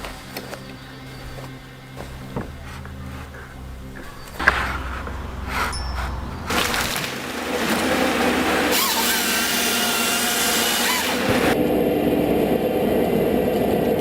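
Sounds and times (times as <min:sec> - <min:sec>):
power saw cutting wood: 0:00.0 - 0:11.6
engine running: 0:00.0 - 0:14.0.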